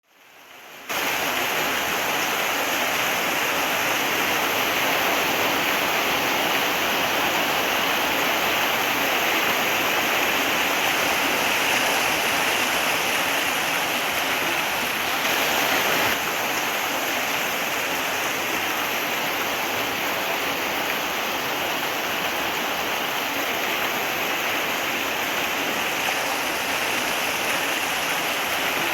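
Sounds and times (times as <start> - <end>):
waterfall rushing: 0.2 - 28.9.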